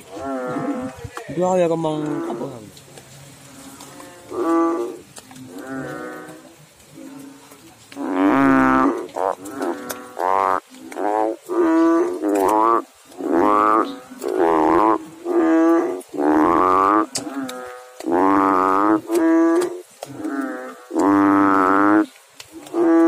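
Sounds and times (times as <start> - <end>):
frogs calling in chorus: 1.9 - 2.6, 3.4 - 23.0.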